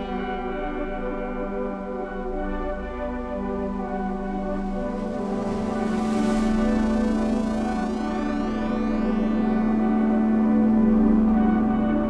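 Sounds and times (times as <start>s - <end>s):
orchestral ambient chords: 0.0s - 12.0s.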